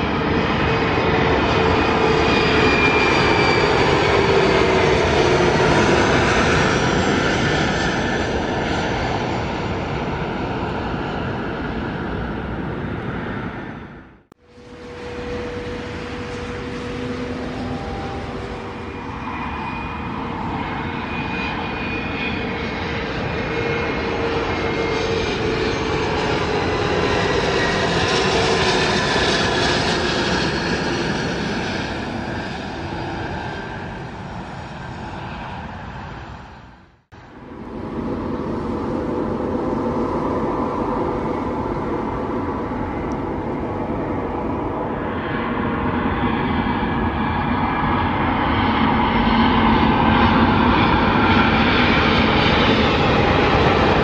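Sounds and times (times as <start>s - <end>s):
jet passing overhead: 0.0s - 54.0s
steady jet drone: 0.0s - 54.0s.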